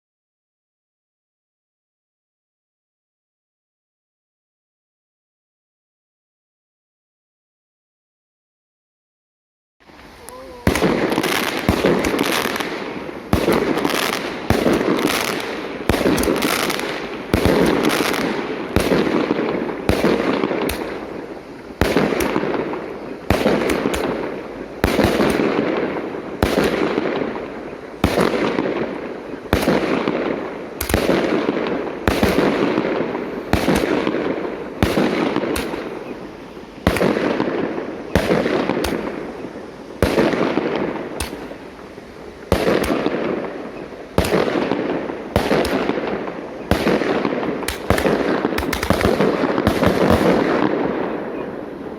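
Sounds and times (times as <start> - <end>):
fireworks bangs: 9.8 - 51.9.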